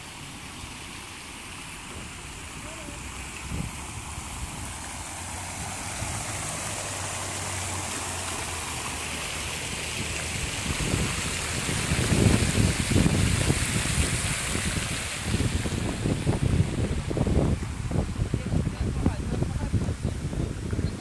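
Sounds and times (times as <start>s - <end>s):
fountain splashing: 0.0s - 21.0s
wind rumbling on microphone: 1.9s - 21.0s.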